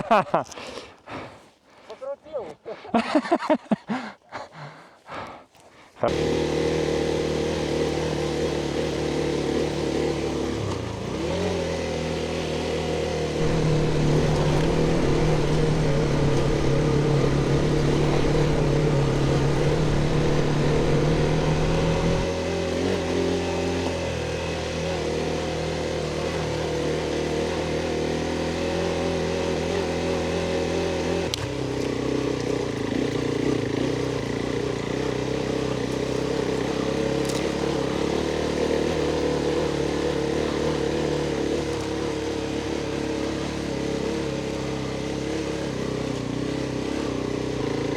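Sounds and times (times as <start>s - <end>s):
motorcycle engine running: 6.1s - 47.9s.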